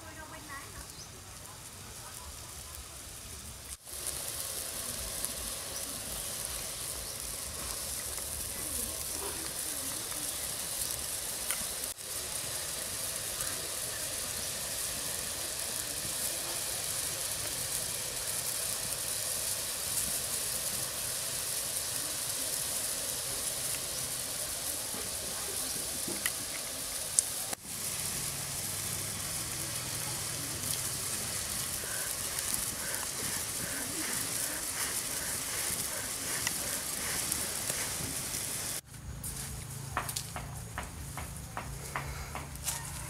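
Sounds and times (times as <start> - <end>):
water hissing in metal wok: 0.0 - 43.0.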